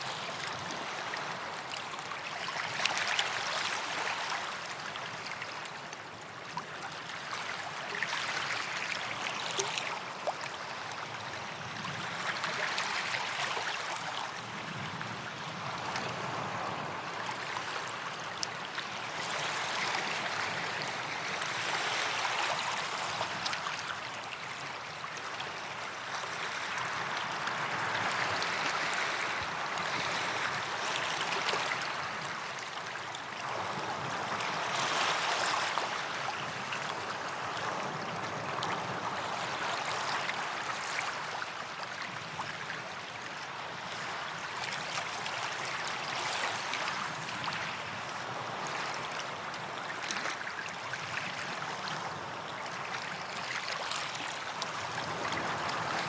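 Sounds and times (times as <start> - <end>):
waves breaking on sandy beach: 0.0 - 56.0.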